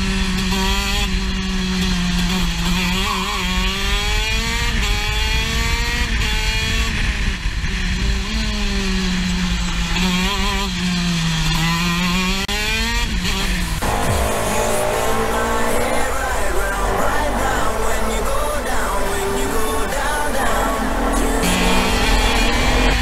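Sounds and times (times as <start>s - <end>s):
kart engine buzzing: 0.0s - 23.0s.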